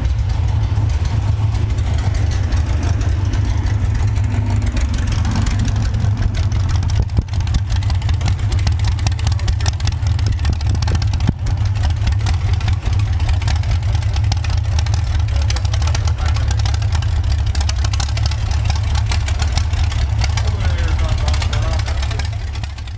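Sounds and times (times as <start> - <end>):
car engine running steadily: 0.0 - 22.9.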